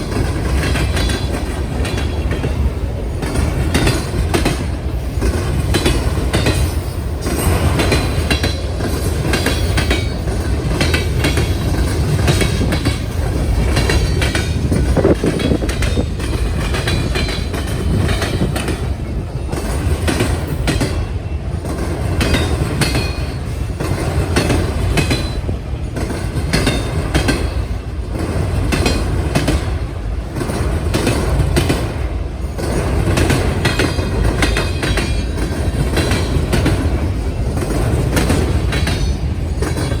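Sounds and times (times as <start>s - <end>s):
railcars rumbling: 0.0s - 40.0s.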